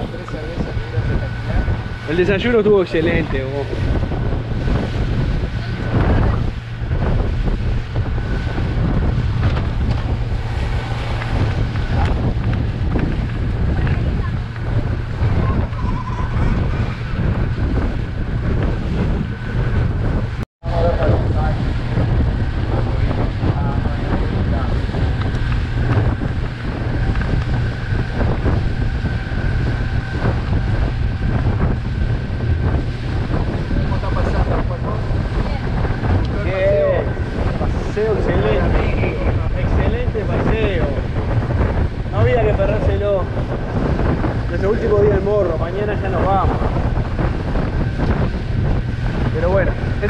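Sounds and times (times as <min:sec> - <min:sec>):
motorboat engine drone: 0:00.0 - 0:50.0
wind rushing over microphone: 0:00.0 - 0:50.0.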